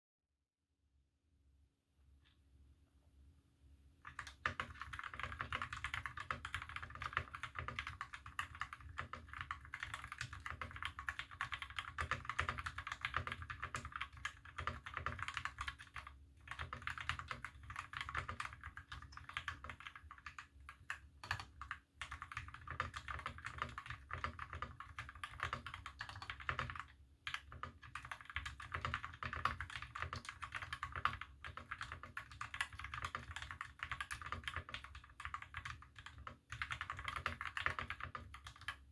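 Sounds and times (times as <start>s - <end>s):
typing on mechanical keyboard: 4.0s - 38.9s.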